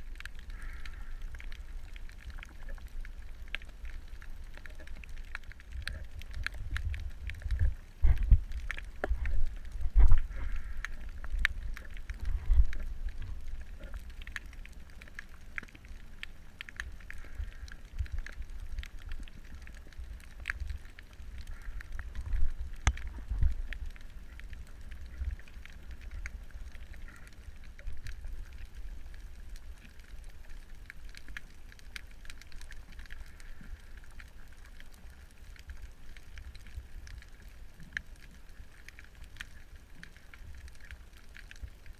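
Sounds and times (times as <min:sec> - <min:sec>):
crackling clicks: 0:00.0 - 0:41.9
underwater water rumble: 0:00.0 - 0:41.9.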